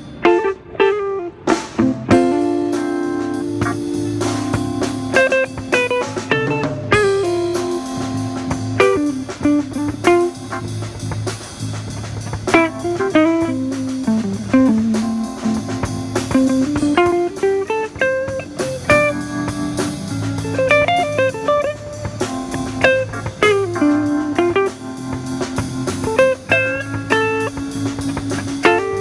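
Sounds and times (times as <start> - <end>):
drum kit beat: 0.0 - 29.0
electric guitar melody: 0.0 - 29.0
keyboard: 0.0 - 29.0.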